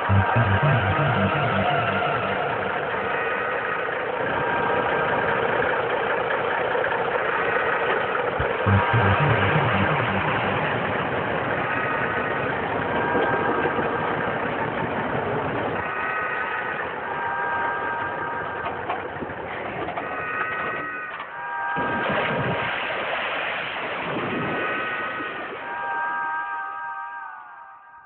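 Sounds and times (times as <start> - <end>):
truck engine running: 0.0 - 23.2.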